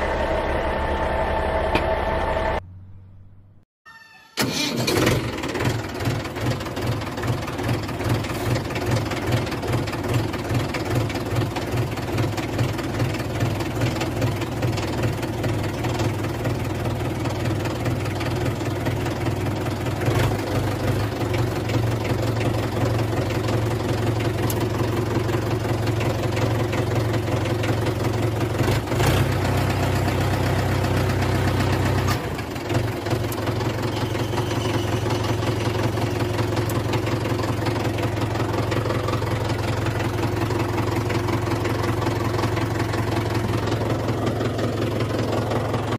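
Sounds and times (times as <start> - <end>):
tractor engine idling: 0.0 - 3.5, 4.4 - 45.9.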